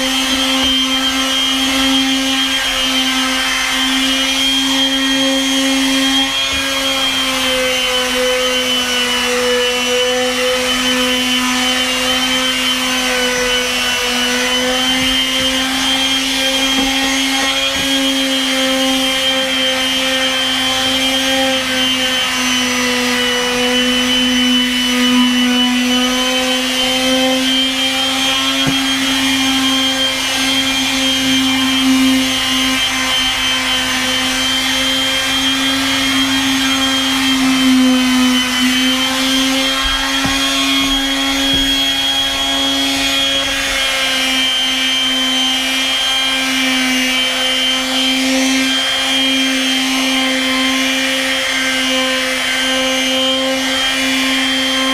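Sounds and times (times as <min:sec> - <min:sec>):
palm sander motor whine: 0:00.0 - 0:54.9.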